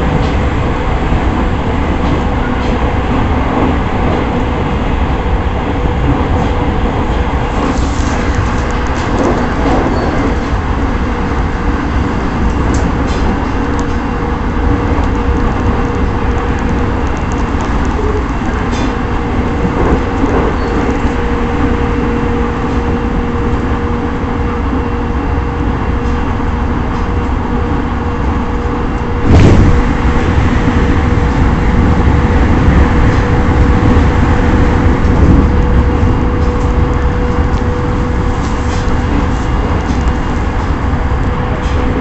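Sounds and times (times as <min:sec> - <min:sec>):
train hum: 0:00.0 - 0:42.0
train wheels rumbling on rail: 0:00.0 - 0:42.0.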